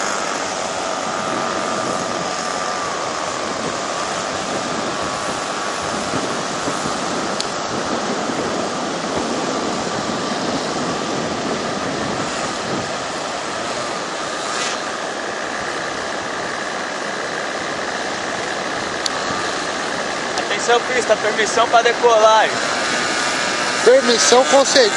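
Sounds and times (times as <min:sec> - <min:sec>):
beach surf: 0:00.0 - 0:24.9
strong wind on microphone: 0:00.0 - 0:24.9.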